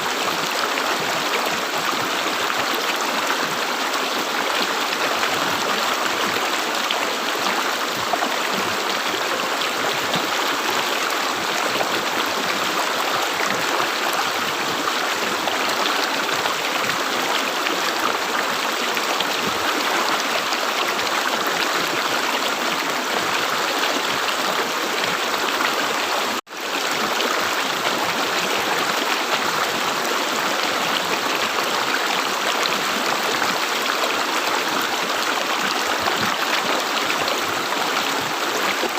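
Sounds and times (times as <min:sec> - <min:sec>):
river water gurgling: 0:00.0 - 0:38.9.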